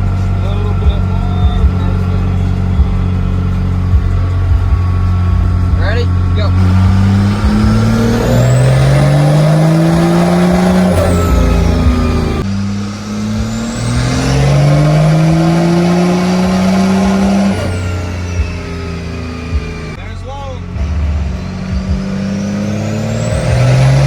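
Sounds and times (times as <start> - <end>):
diesel engine revving: 0.0 - 24.0
high turbo whistle: 0.0 - 24.0.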